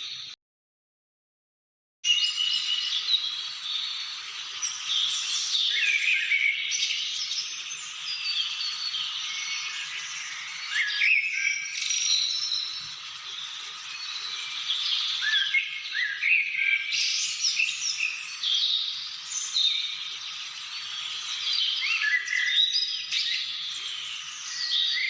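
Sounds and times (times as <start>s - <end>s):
birds chirping and whistling chorus: 2.0s - 25.0s.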